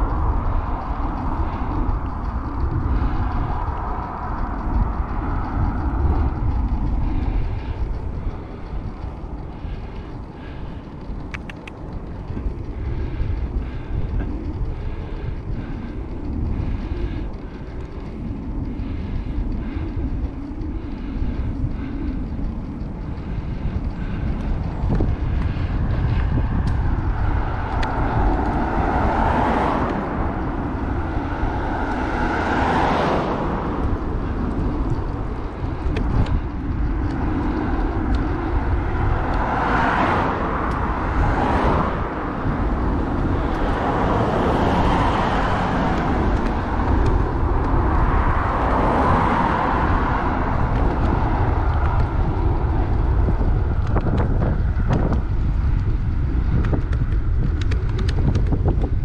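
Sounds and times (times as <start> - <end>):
road traffic noise: 0.0 - 59.0
wind rumbling on microphone: 0.0 - 59.0.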